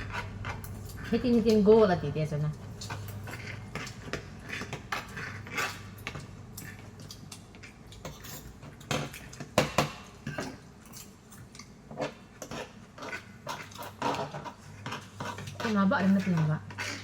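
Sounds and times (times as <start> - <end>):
utensils clinking on dishes: 0.0 - 17.0.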